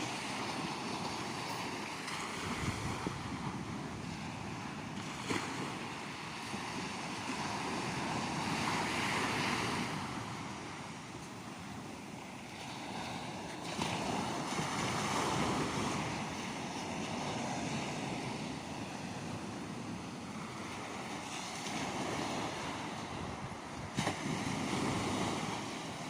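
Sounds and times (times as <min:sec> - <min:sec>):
surf washing on shore: 0:00.0 - 0:26.0.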